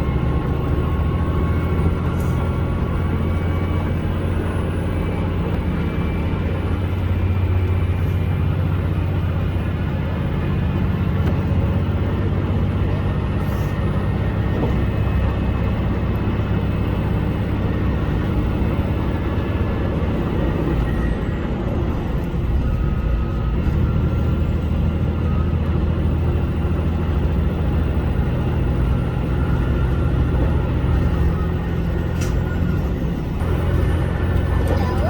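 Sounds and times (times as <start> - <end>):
diesel railcar engine drone: 0.0 - 35.0.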